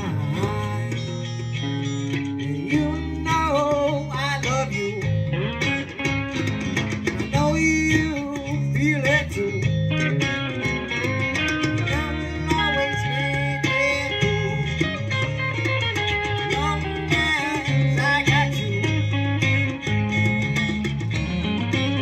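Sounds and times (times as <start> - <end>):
bass line: 0.0 - 22.0
electric guitar bending notes: 0.0 - 22.0.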